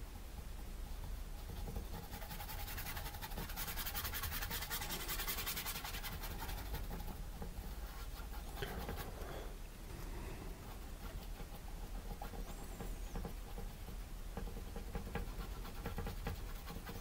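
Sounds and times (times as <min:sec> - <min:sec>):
paintbrush scratching on canvas: 0:00.8 - 0:09.5, 0:10.6 - 0:17.0.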